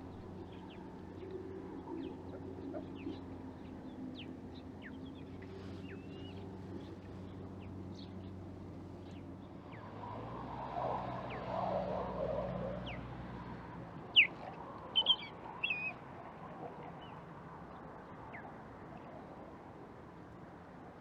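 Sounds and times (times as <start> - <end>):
distant traffic hum: 0.0 - 21.0.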